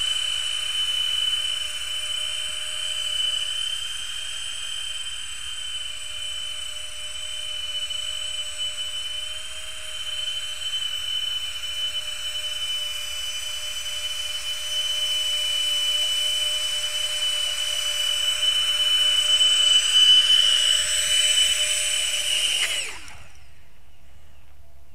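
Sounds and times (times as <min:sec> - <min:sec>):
motors spinning down: 0:00.0 - 0:23.7
drone fans whining: 0:00.0 - 0:24.9.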